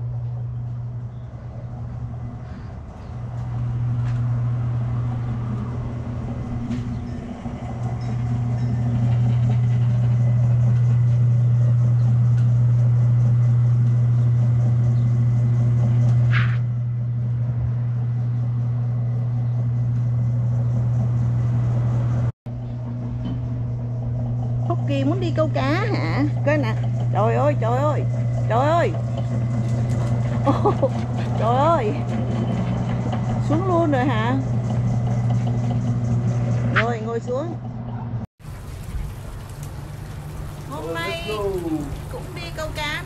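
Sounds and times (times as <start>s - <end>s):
winch motor humming: 0.0s - 43.0s.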